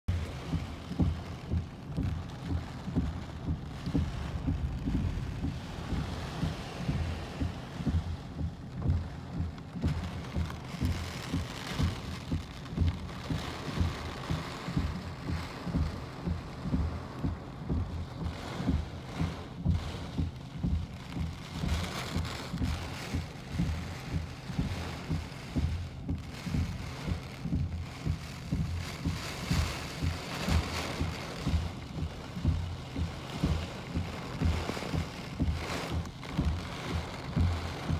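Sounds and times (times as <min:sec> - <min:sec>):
low thuds: 0:00.0 - 0:37.9
rain: 0:00.0 - 0:37.9
storm wind: 0:00.1 - 0:37.9.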